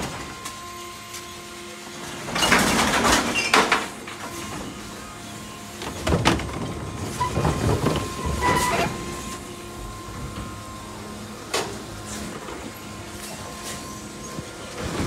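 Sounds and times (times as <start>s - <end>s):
electric hum and whine: 0.0s - 15.0s.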